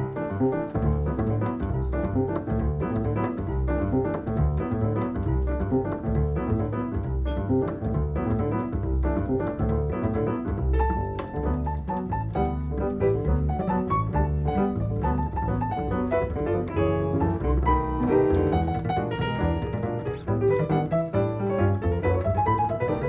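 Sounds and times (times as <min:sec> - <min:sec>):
double bass: 0:00.0 - 0:23.0
jazz piano: 0:00.0 - 0:23.0.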